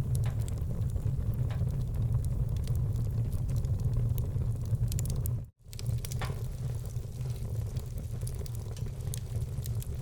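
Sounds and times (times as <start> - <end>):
fire flames rumbling: 0.0 - 10.0
logs crackling: 0.0 - 10.0.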